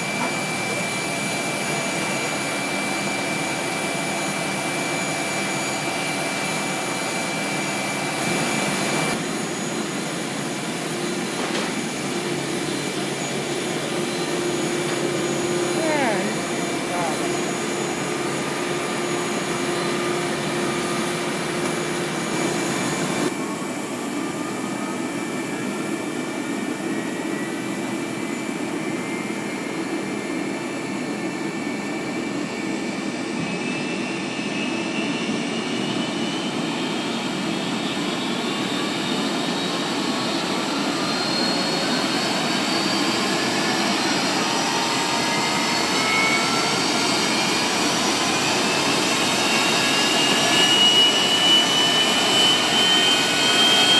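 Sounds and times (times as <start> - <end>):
jet engine spooling up: 0.0 - 53.9.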